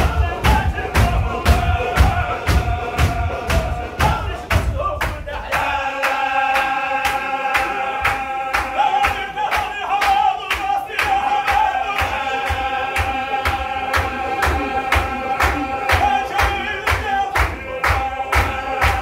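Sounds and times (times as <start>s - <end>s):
hand claps: 0.0s - 19.0s
men's chorus chanting: 0.0s - 19.0s.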